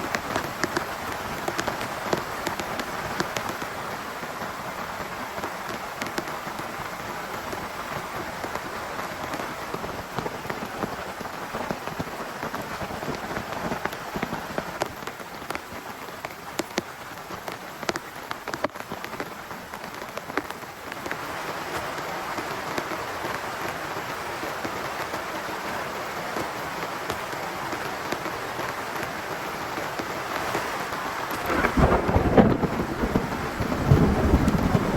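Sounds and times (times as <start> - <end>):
heavy rain hissing on tent: 0.0 - 34.9
raindrops ticking on fabric: 0.0 - 34.9.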